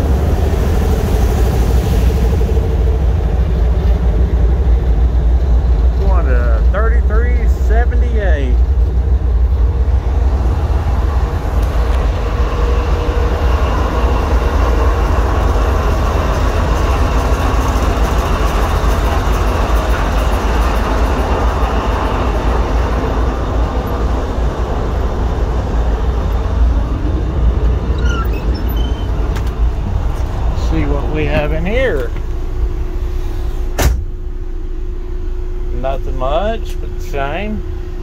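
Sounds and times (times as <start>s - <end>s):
diesel locomotive engine rumbling: 0.0s - 38.0s.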